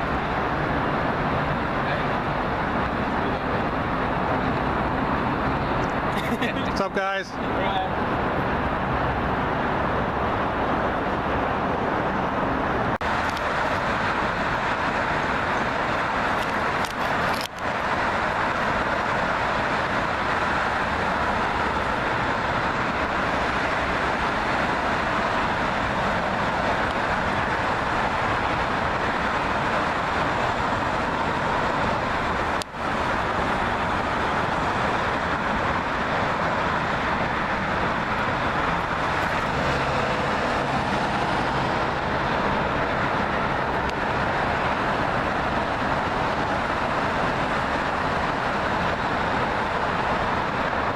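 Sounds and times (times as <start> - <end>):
road traffic noise: 0.0 - 50.9.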